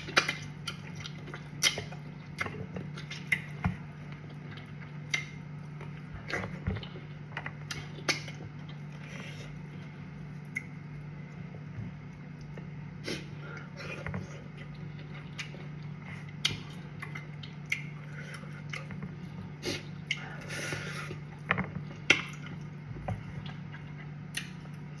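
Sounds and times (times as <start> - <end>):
chewing and wet squishing: 0.0 - 25.0
steady low hum: 0.0 - 25.0.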